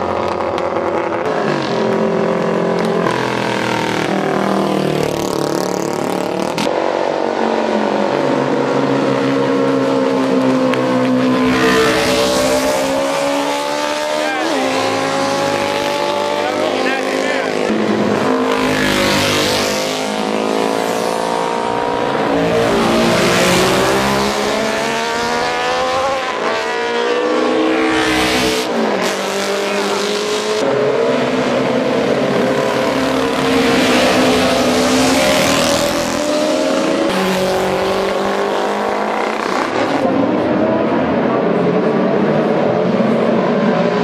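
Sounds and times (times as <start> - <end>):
racing motorcycles passing at speed: 0.0 - 44.0.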